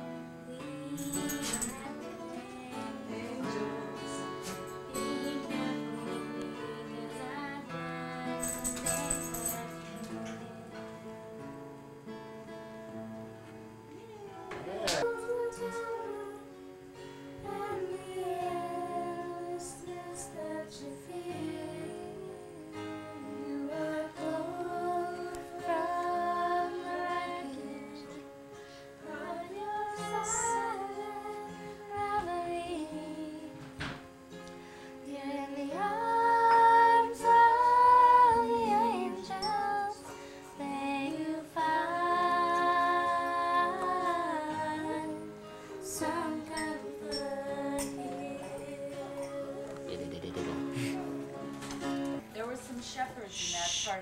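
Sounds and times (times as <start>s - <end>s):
women singing together: 0.0s - 11.1s, 13.9s - 16.7s, 17.4s - 28.4s, 29.0s - 34.1s, 35.0s - 49.9s
strummed acoustic guitar: 0.0s - 13.9s, 14.5s - 53.9s.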